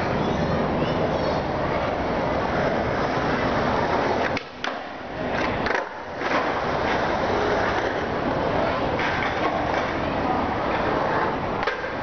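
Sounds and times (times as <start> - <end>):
skateboard wheels rolling on concrete: 0.0 - 12.0
skateboard clacks: 1.6 - 12.0.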